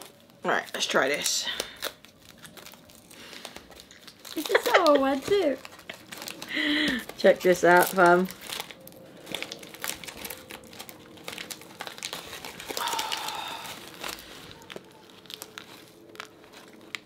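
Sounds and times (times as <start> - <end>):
foil wrapper crinkling: 0.0 - 17.0.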